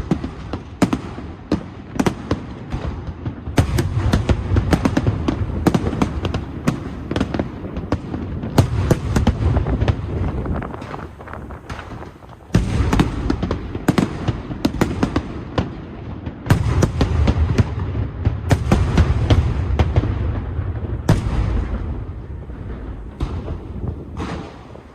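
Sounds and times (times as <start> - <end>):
fireworks crackling: 0.0 - 24.9.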